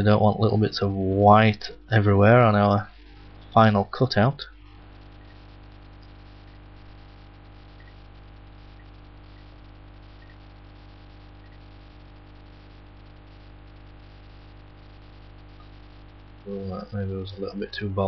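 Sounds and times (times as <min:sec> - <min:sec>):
faint electrical mains hum: 0:00.0 - 0:18.0
recording hiss: 0:00.0 - 0:18.0.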